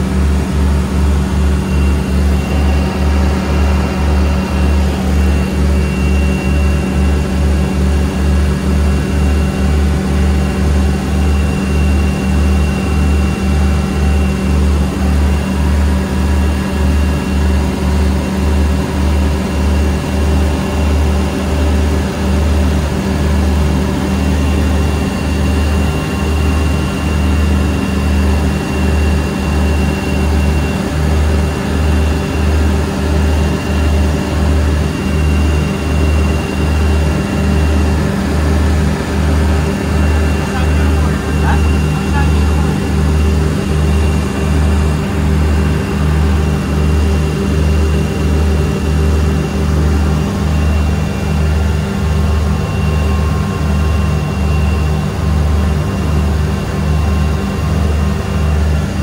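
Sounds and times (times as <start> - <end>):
light aircraft engines in flight: 0.0 - 59.0.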